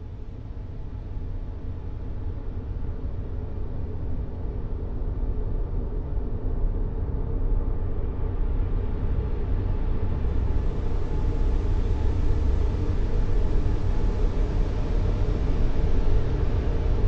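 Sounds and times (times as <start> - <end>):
deep rumbling white noise: 0.0 - 17.0.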